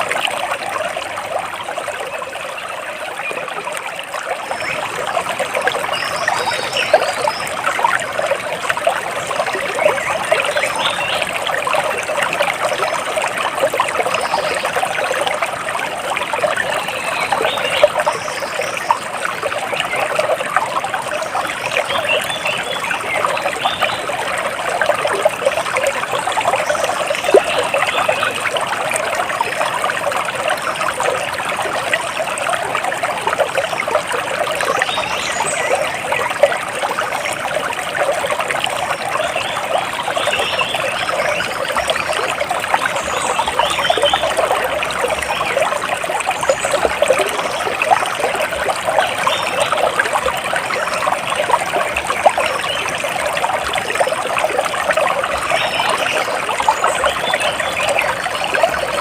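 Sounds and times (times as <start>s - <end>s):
splashing trickling water: 0.0s - 59.0s.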